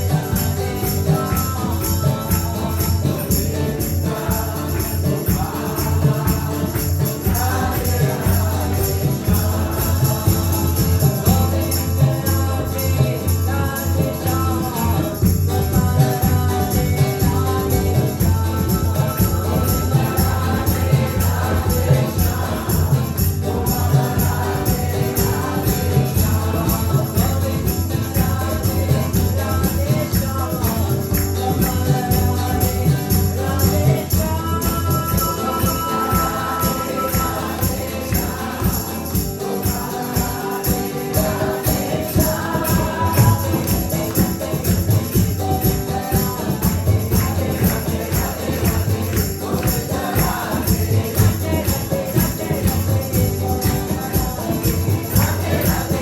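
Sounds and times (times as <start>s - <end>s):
fast beat with jingling percussion: 0.0s - 56.0s
group chanting: 0.0s - 56.0s.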